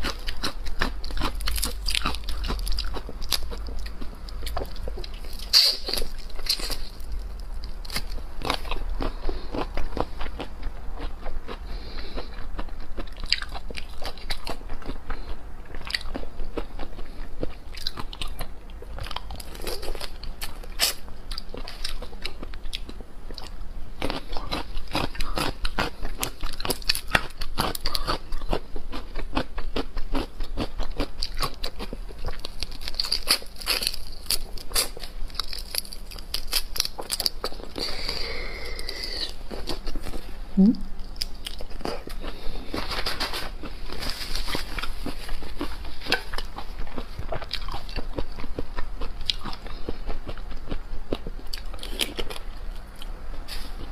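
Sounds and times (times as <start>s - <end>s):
wet chewing and sucking: 0.0s - 52.4s.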